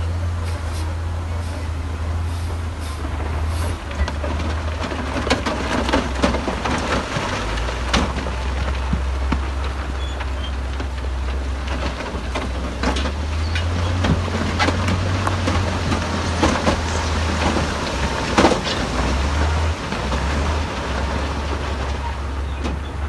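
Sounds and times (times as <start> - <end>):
diesel earthmoving machine droning: 0.0 - 23.0
metal and rock clanking: 3.0 - 23.0.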